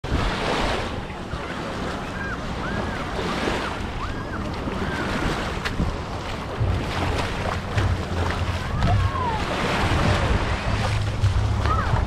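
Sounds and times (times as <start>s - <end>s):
surf washing onto beach: 0.0s - 12.0s
wind noise on microphone: 0.0s - 12.0s.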